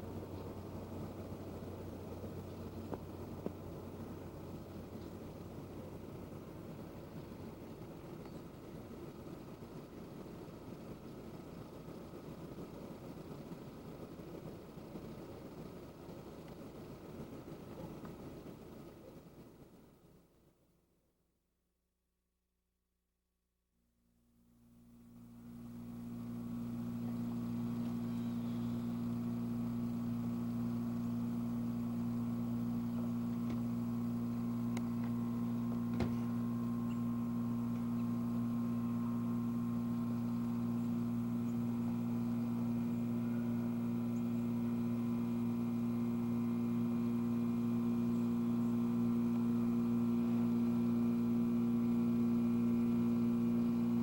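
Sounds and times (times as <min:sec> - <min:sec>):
steady electrical hum: 0:00.0 - 0:20.8, 0:23.9 - 0:54.0.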